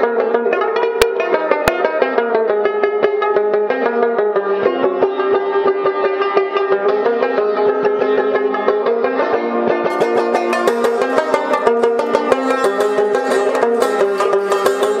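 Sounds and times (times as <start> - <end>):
plucked lute playing: 0.0 - 15.0.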